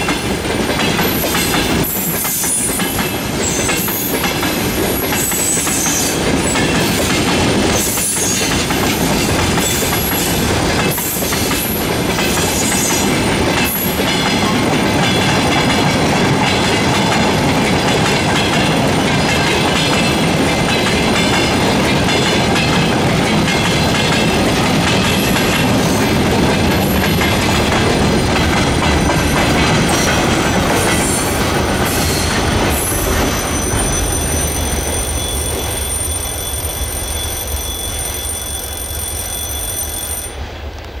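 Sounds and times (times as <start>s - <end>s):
freight train wheels clattering: 0.0s - 40.1s.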